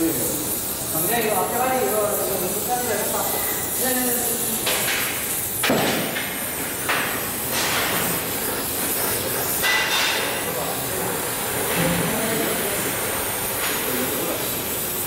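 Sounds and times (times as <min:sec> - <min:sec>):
welding torch flame hissing: 0:00.0 - 0:15.0.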